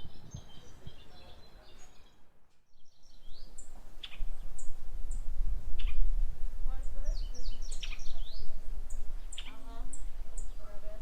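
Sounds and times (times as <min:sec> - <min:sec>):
birds chirping: 0:00.0 - 0:11.0
low microphone rumble: 0:00.0 - 0:11.0.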